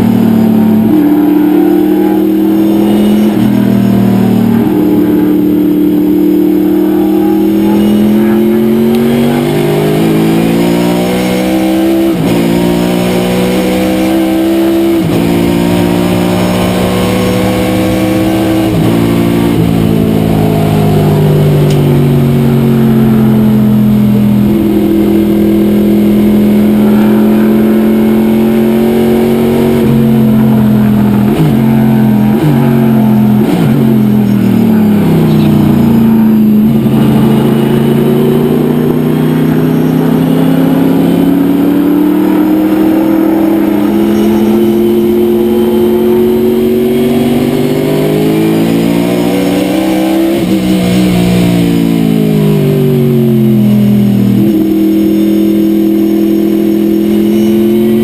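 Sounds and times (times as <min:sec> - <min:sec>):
engine throttle blips: 0:00.0 - 0:58.0
race car engine revving: 0:00.0 - 0:58.0.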